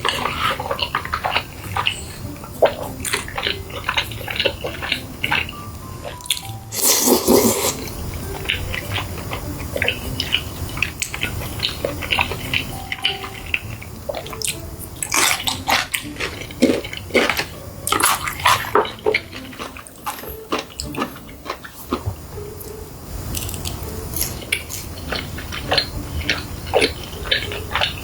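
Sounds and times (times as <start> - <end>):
wet chewing: 0.0 - 28.0.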